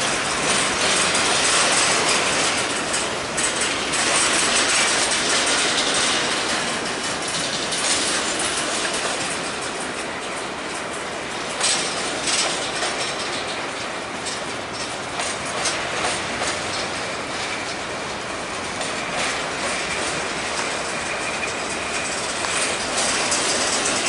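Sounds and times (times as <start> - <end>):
freight train wheels rumbling on rail: 0.0 - 24.0
wheels clicking over rail joints: 0.0 - 24.0.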